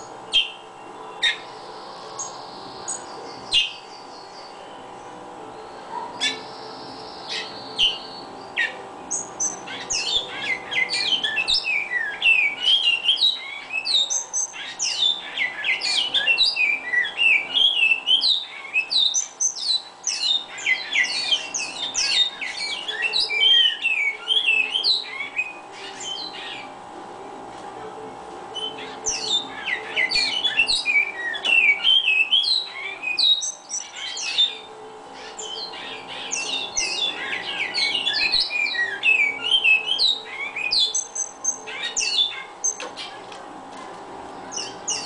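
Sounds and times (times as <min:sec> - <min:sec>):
finch singing: 0:00.0 - 0:26.8, 0:28.5 - 0:43.5, 0:44.2 - 0:45.0.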